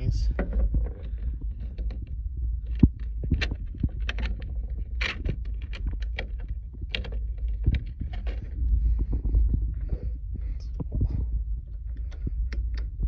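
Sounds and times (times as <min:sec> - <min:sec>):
parts clicking and rattling: 0:00.0 - 0:13.0
steady low rumble: 0:00.0 - 0:13.0.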